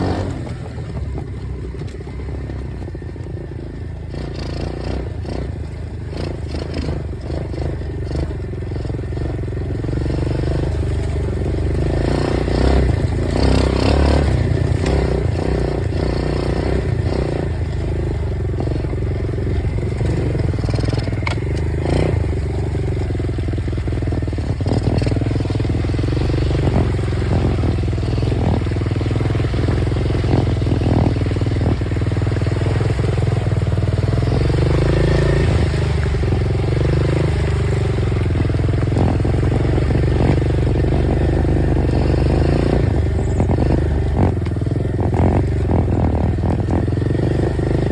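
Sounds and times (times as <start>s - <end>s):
dirt bike engine revving: 0.0s - 3.0s, 4.0s - 47.9s.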